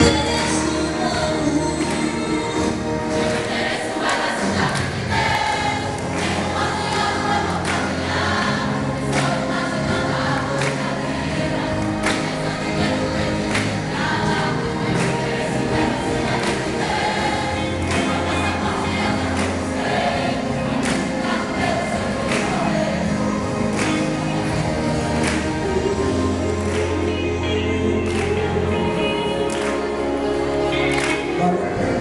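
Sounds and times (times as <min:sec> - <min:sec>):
choir singing gospel: 0:00.0 - 0:32.0.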